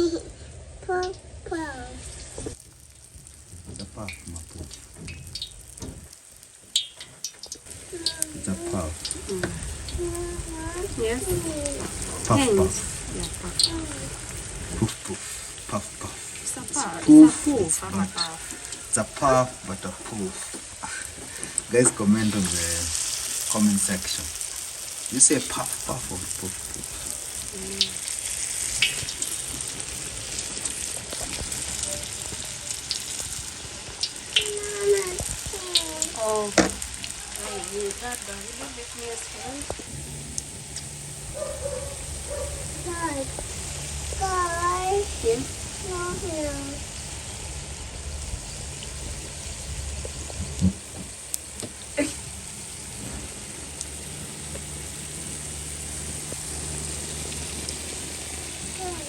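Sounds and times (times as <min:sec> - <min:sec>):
dough sizzling in hot oil: 0:00.0 - 0:59.0
oil crackling: 0:00.0 - 0:59.0.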